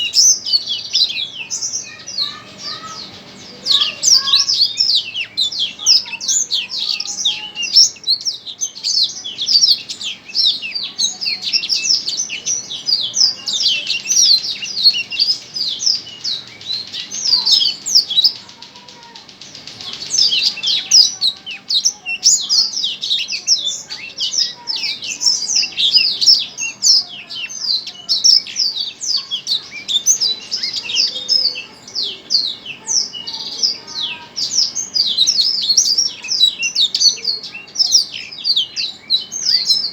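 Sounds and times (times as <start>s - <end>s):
small songbird chirping: 0.0s - 39.9s.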